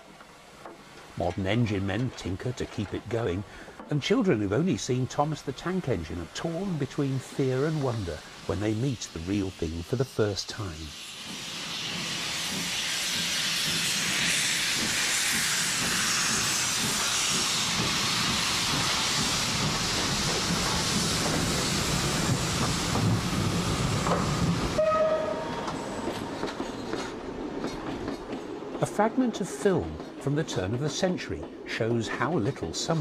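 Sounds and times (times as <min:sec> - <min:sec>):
steam locomotive hissing steam: 0:00.4 - 0:33.0.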